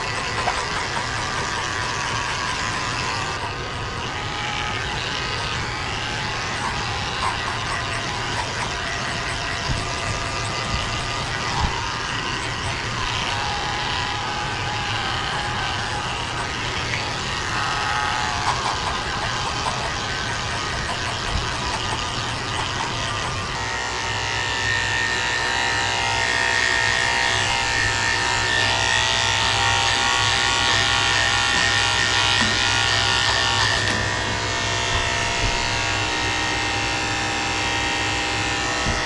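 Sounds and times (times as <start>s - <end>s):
electric clippers buzzing: 0.0s - 39.0s.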